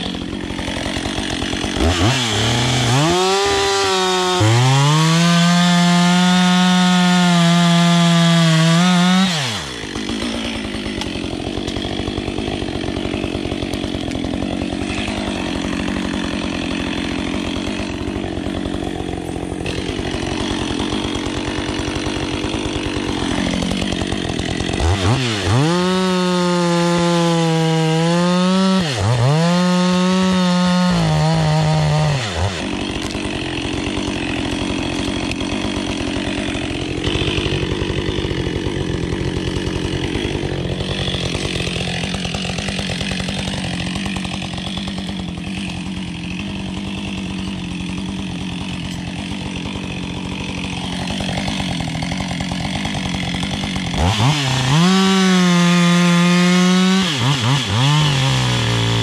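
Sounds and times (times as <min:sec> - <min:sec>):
chainsaw cutting into log: 0:00.0 - 0:59.0
chainsaw revving and idling: 0:00.0 - 0:59.0.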